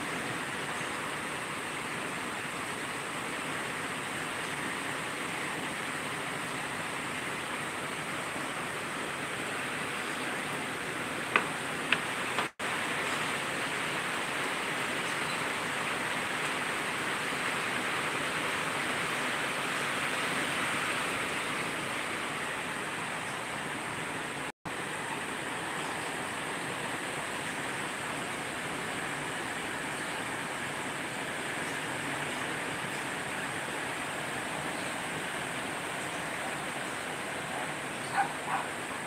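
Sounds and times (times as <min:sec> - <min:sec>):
heavy rain hissing: 0:00.0 - 0:39.0.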